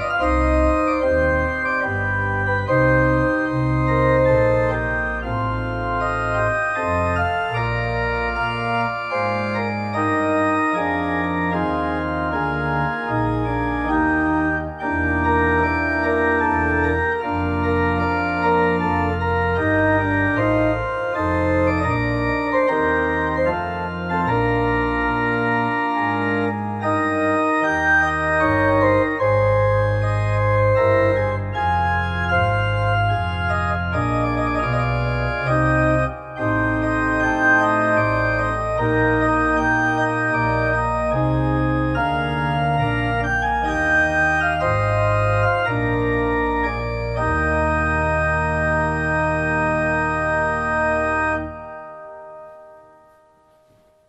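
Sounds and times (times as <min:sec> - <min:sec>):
deep organ pedal bass: 0:00.0 - 0:52.8
pipe organ chords: 0:00.0 - 0:54.0.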